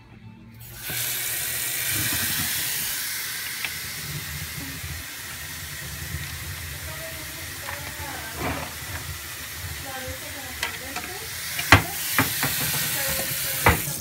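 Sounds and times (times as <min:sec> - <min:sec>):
faucet running water into sink: 0:00.6 - 0:14.0.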